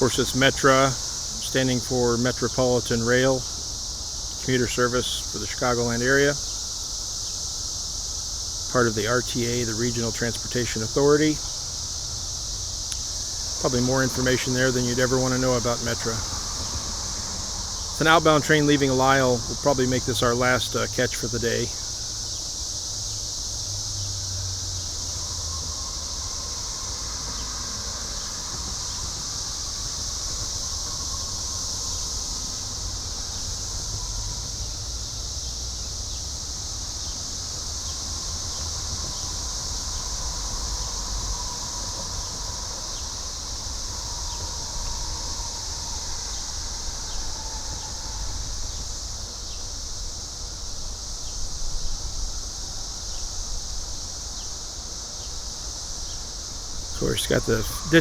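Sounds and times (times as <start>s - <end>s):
cicadas chorus: 0.0s - 58.0s.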